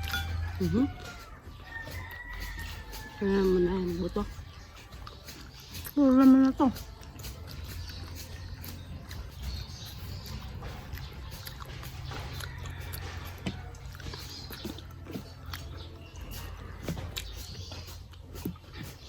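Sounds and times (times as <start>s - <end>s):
chewing crispy fried pork: 0.0s - 19.0s.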